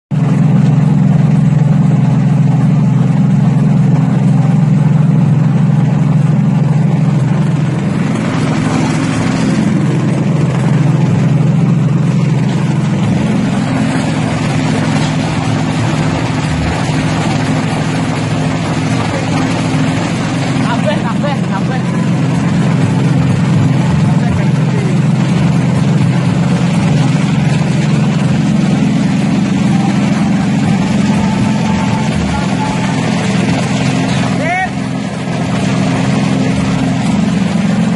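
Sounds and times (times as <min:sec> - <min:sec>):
shelling machine droning: 0:00.1 - 0:37.9.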